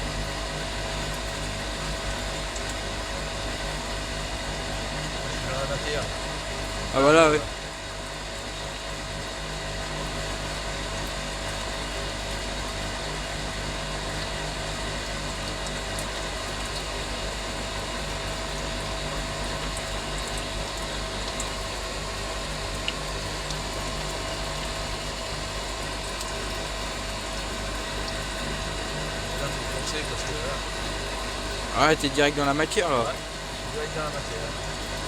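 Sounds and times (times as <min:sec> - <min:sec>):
coolant washing: 0:00.0 - 0:35.0.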